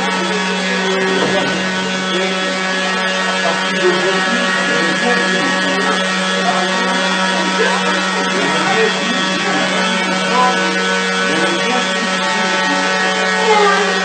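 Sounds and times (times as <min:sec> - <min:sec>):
indistinct voices murmuring: 0:00.0 - 0:14.0
loud low humming drone: 0:00.0 - 0:14.0.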